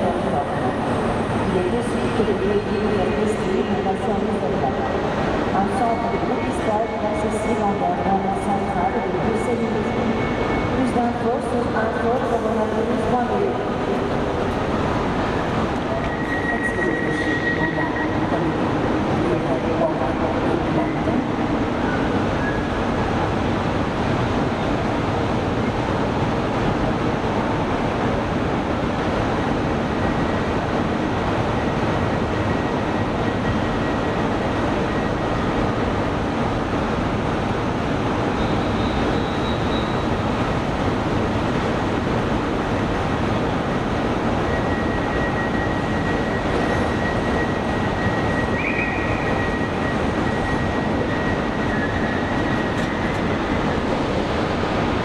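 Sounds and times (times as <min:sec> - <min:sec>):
train running rumble and hiss: 0:00.0 - 0:55.0.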